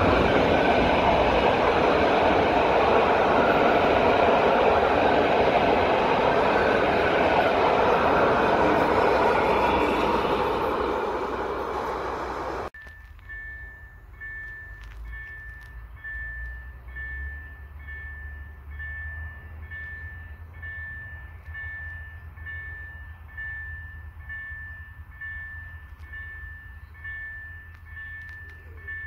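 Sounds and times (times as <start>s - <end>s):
level-crossing warning bell ringing: 0.0s - 29.0s.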